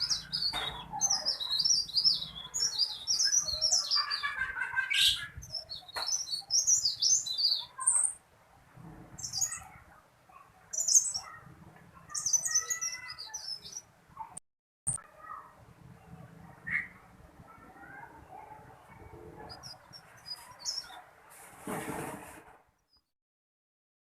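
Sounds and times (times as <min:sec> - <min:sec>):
songbird chirping: 0:00.0 - 0:14.3, 0:16.0 - 0:21.1.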